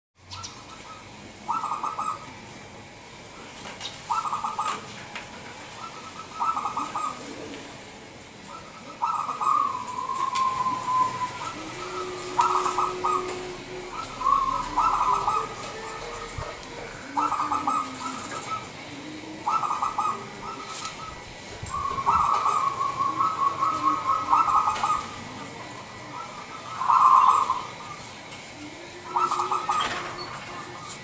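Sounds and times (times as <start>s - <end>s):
dove cooing: 0.3s - 31.0s.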